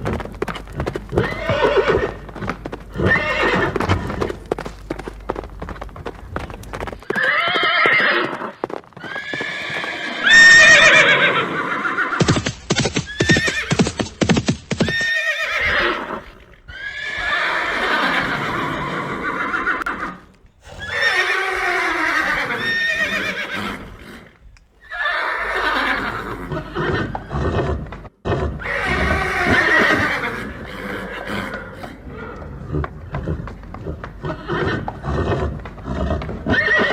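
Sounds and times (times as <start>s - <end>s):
hooves clip-clopping: 0.0s - 28.1s, 31.5s - 36.9s
horses neighing: 0.0s - 36.9s.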